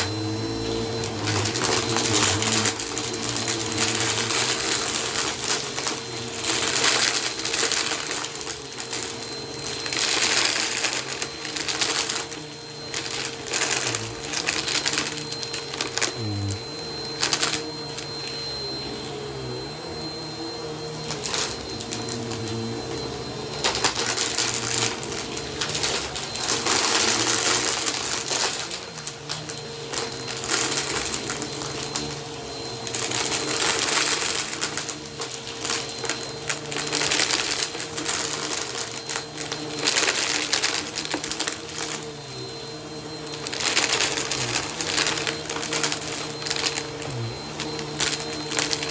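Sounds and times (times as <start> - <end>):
vacuum cleaner on rug: 0.0 - 48.9.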